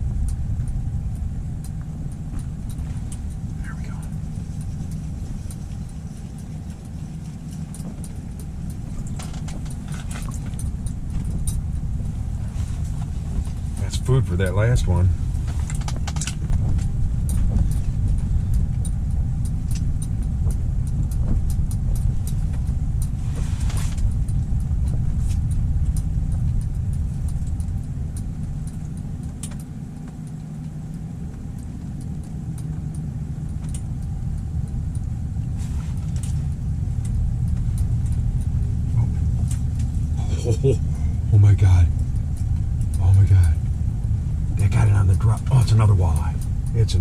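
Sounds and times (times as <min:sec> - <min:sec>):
wind buffeting microphone: 0:00.0 - 0:47.0
light clicks: 0:00.1 - 0:47.0.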